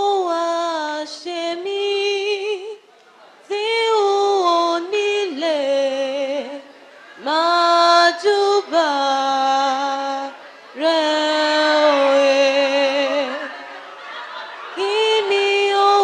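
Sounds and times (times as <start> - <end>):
woman singing unaccompanied: 0.0 - 2.8, 3.5 - 13.6, 14.8 - 16.0.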